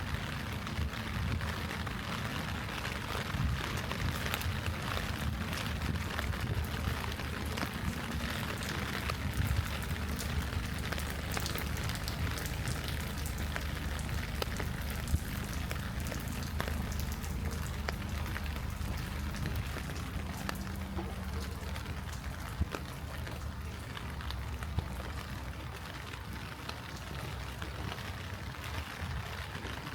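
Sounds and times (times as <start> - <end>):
light rain falling: 0.0 - 29.9
sharp raindrop ticks: 0.0 - 29.9.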